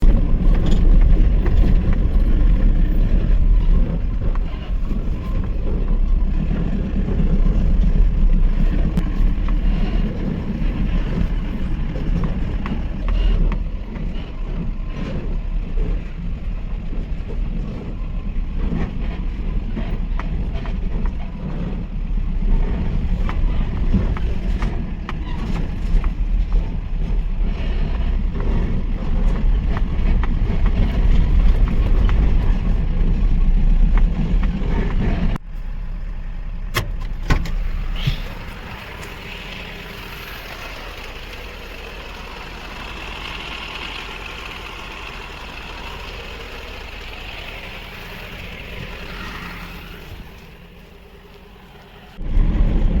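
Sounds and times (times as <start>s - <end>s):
truck engine rumbling: 0.0s - 53.0s.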